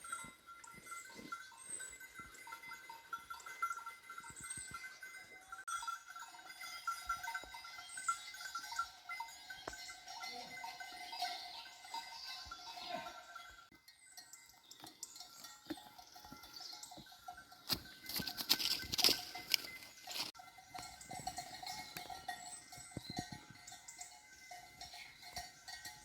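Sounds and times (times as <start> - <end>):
sheep bells clanking: 0.0 - 26.0.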